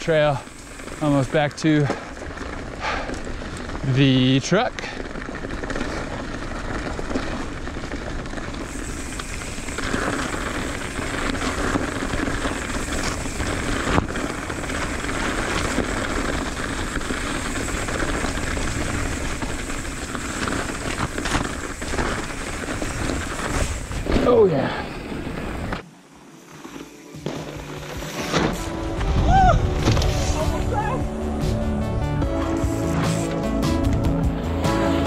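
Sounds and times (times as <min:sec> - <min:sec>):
bike tyres on dirt trail: 0:00.0 - 0:35.0.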